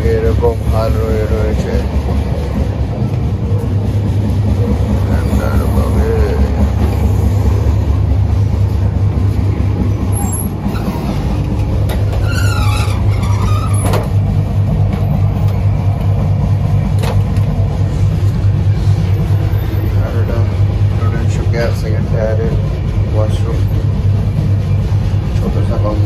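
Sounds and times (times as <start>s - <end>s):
train rumble from inside coach: 0.0s - 26.0s.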